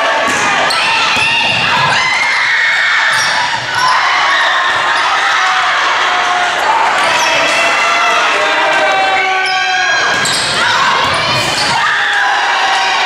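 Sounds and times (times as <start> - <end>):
voices echoing in a gym: 0.0 - 13.0.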